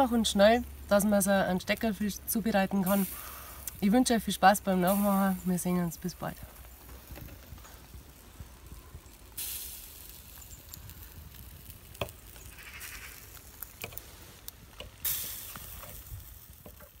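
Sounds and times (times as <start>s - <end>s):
embers crackling: 0.0s - 17.0s
fish sizzling over charcoal: 0.0s - 17.0s.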